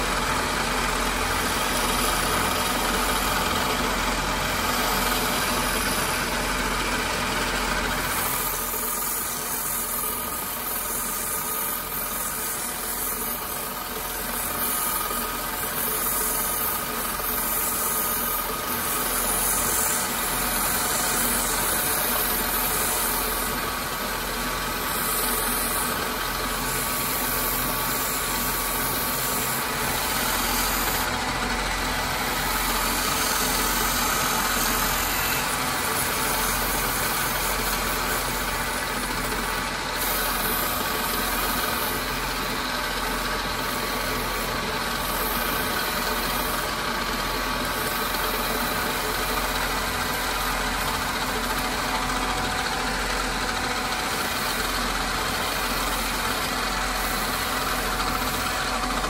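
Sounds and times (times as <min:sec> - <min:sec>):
wood lathe motor hum: 0:00.0 - 0:59.0
sandpaper hissing on wood: 0:01.1 - 0:59.0.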